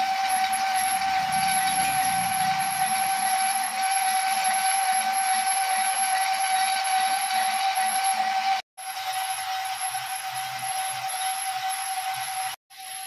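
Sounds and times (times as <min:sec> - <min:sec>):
metal lathe whining: 0:00.0 - 0:13.0.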